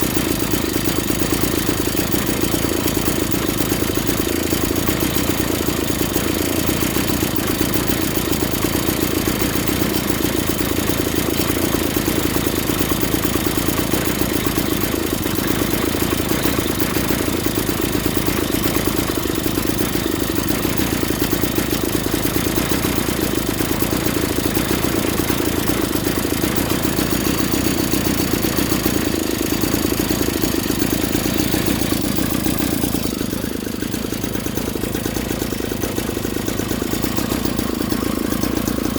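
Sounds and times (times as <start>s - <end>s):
pocket bike engine idling: 0.0s - 38.9s.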